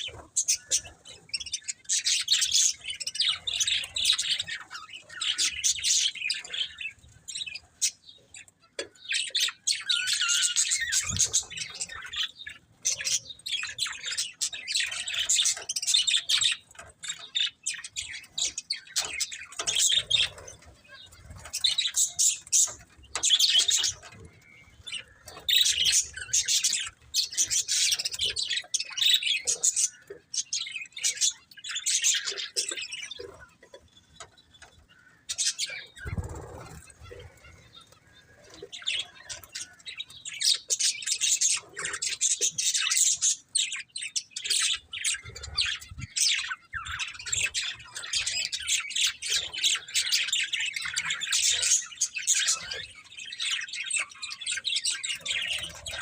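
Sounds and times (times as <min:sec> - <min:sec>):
budgerigars chattering and chirping: 0:00.0 - 0:56.0.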